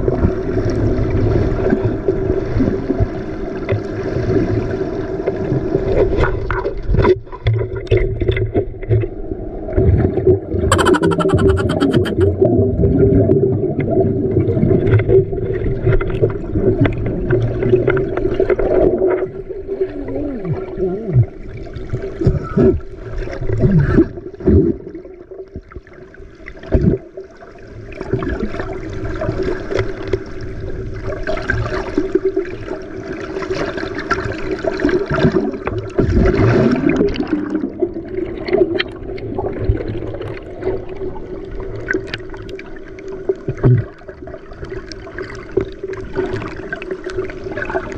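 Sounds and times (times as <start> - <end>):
water sloshing and gurgling: 5.3 - 10.1, 13.2 - 47.9.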